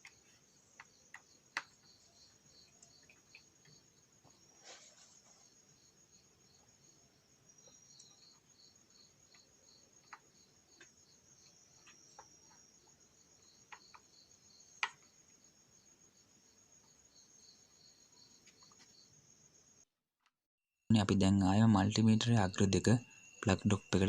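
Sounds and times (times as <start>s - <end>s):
cricket chirping: 0.0s - 19.9s, 21.0s - 24.0s.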